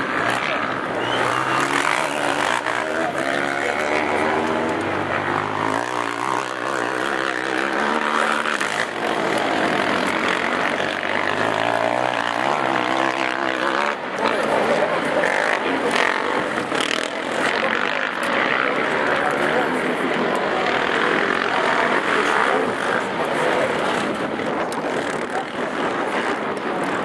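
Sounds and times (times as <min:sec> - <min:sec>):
quad engines revving: 0:00.0 - 0:27.0.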